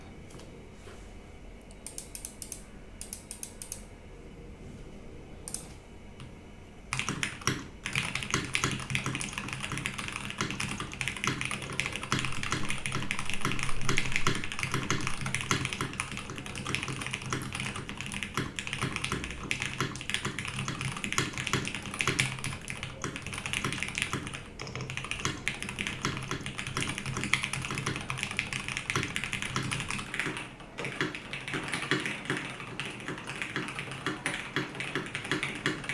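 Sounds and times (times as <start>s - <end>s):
mechanical keyboard typing: 6.9s - 35.9s.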